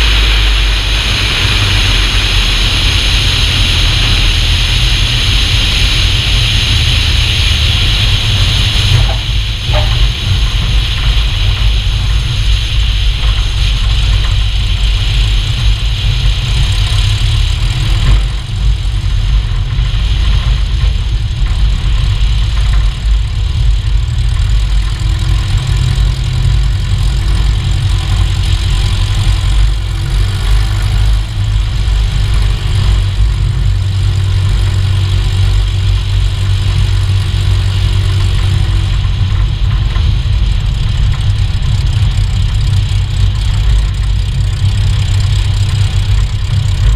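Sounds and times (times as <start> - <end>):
aircraft low rumble on runway: 0.0 - 46.9.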